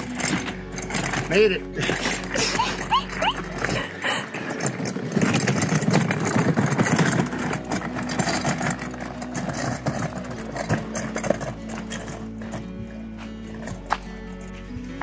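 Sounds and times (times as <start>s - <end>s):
cart wheels rattling on gravel: 0.0s - 15.0s.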